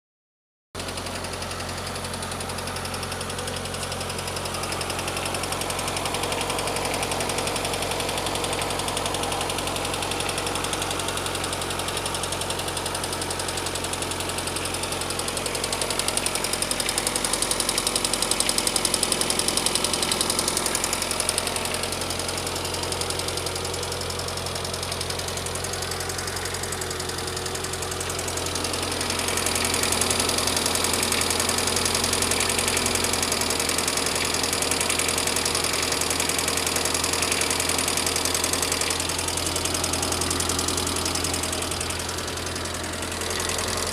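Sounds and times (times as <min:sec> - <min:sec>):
car engine idling with tappet knock: 0:00.8 - 0:43.9.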